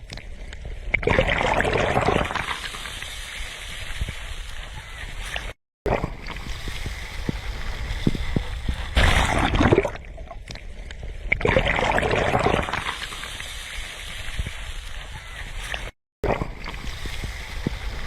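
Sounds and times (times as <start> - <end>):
sea waves washing over shore: 1.4 - 10.1, 11.6 - 18.0.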